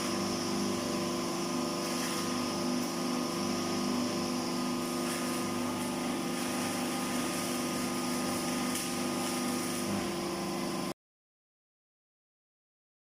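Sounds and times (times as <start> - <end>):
welding machine humming: 0.0 - 11.0.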